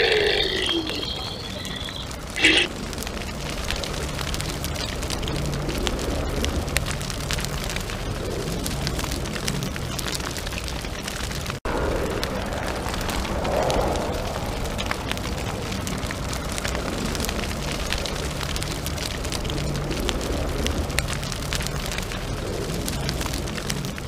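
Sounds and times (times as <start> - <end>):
fire crackling and popping: 0.0 - 24.0
low rumble: 0.0 - 24.0.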